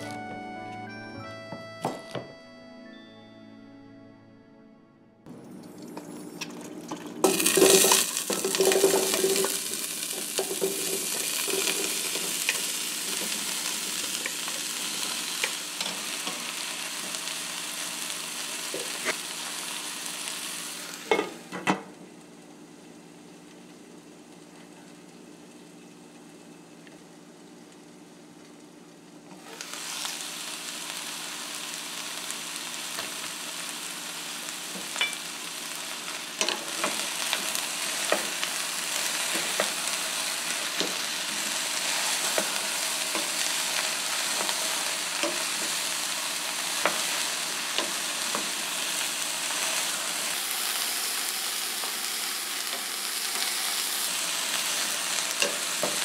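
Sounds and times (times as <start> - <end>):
vegetables sizzling in oil: 5.7 - 28.8, 29.4 - 56.0.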